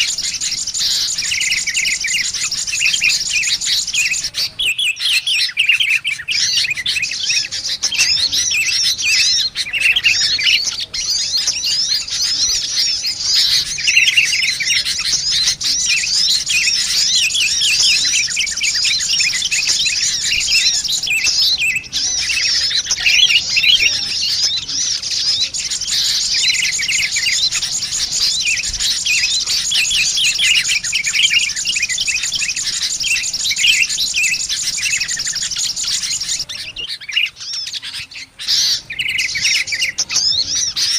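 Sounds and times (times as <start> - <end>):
bulbul chatter: 0.0 - 40.9
small birds chirping and trilling: 0.0 - 40.9.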